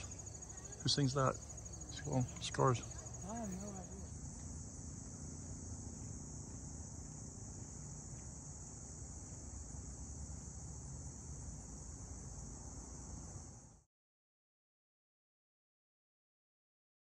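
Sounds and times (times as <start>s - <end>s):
high-pitched insect chorus: 0.0s - 13.8s.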